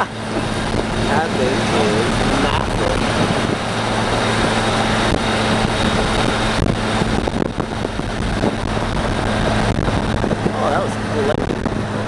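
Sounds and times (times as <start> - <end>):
engine low hum: 0.0 - 12.0
traffic: 0.0 - 12.0
wind rushing: 0.1 - 12.0.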